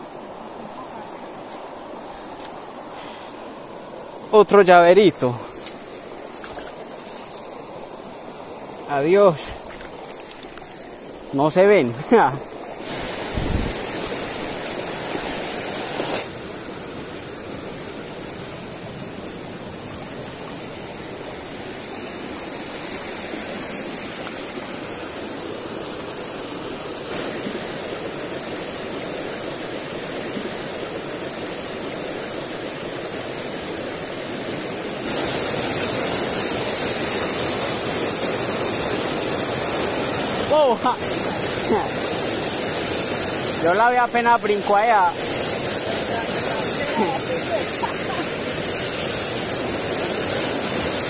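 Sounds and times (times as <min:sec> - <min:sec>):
creek rushing over boulders: 0:00.0 - 0:51.0.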